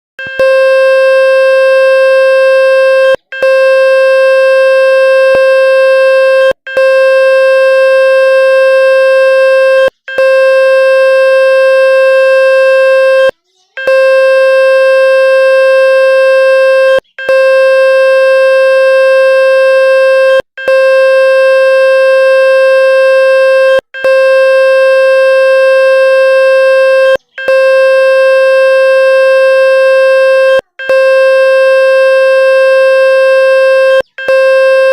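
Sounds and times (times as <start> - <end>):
buzzing electronic tone: 0.2 - 34.9.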